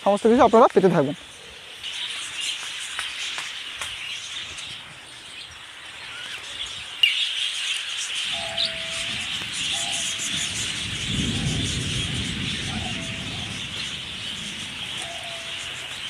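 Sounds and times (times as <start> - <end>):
finches chirping and twittering: 0.0 - 16.0.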